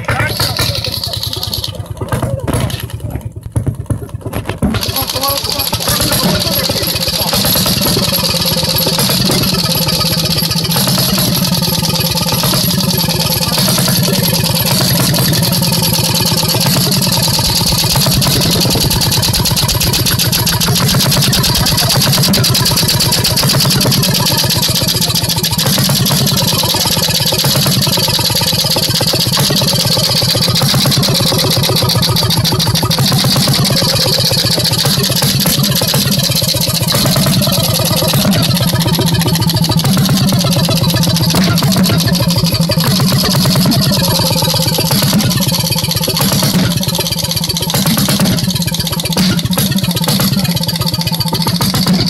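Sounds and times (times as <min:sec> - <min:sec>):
hot-bulb engine running: 0:00.0 - 0:52.0.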